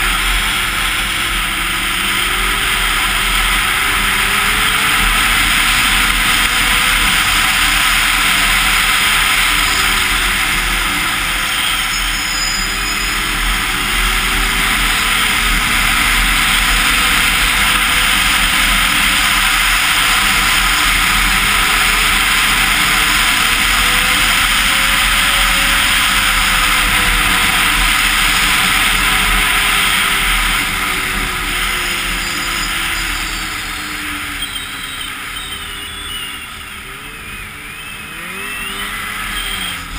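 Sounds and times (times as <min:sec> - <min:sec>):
snowmobile engine running: 0:00.0 - 0:39.9
snowmobile track noise: 0:00.0 - 0:39.9.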